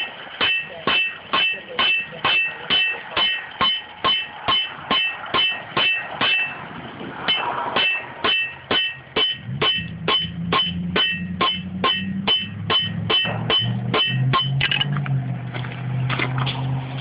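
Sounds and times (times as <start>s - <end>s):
hammer striking iron on anvil: 0.0s - 6.6s, 7.3s - 14.9s.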